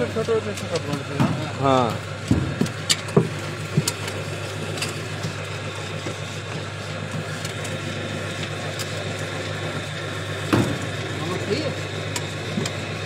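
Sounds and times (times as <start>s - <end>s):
machine motor humming: 0.0s - 13.0s.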